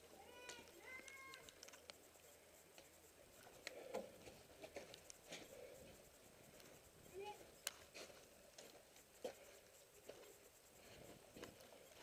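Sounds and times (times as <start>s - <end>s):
soft shuffle of movement: 0.0s - 12.0s
faint clicks: 0.3s - 12.0s.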